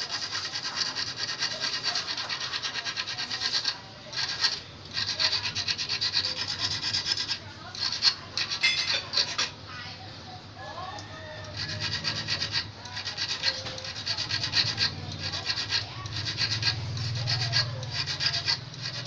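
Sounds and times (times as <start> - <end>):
hand file rasping on metal: 0.0 - 9.6, 11.4 - 19.0.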